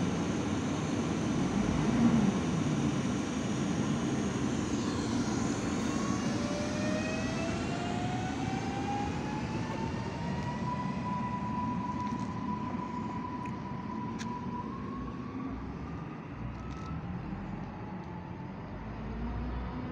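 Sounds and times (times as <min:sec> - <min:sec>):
rising motor whine: 0:00.3 - 0:19.9.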